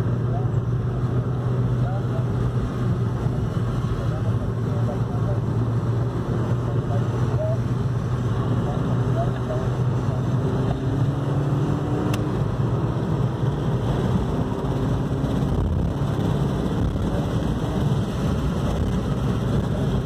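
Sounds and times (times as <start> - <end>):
car engine at speed: 0.0 - 20.0
road and wind noise: 0.0 - 20.0.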